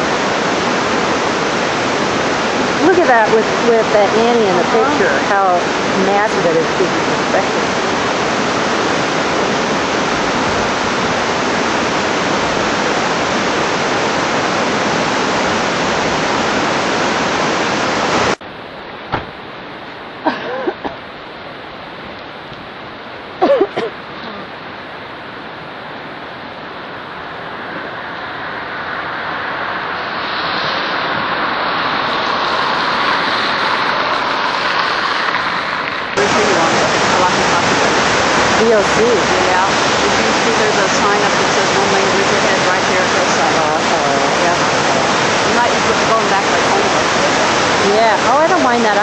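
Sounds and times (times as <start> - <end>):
creek water rushing: 0.0 - 49.0.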